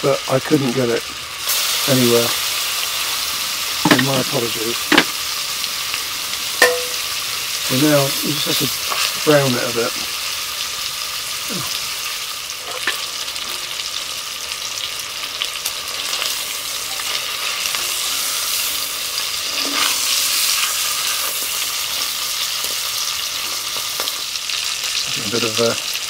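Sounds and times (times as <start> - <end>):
chicken sizzling in pot: 0.0 - 26.0.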